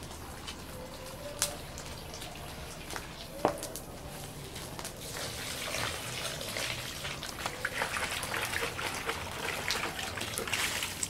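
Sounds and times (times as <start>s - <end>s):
bonfire crackling: 0.0s - 11.0s.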